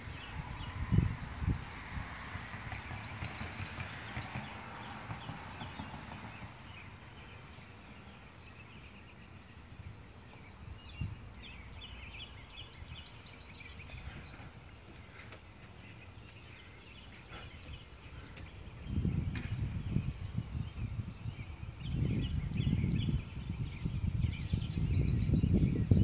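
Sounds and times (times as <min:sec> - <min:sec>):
low wind rumble on microphone: 0:00.0 - 0:26.0
bird chirps: 0:02.7 - 0:26.0.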